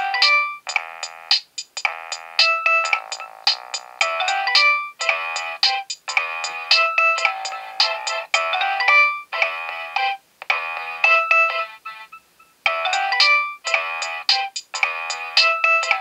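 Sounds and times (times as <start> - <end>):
polyphonic phone ringtone: 0.0 - 1.0, 1.9 - 16.0.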